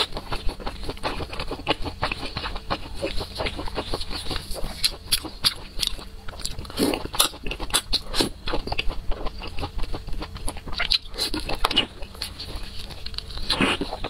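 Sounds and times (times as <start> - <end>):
wet chewing and lip smacks: 0.0 - 14.0.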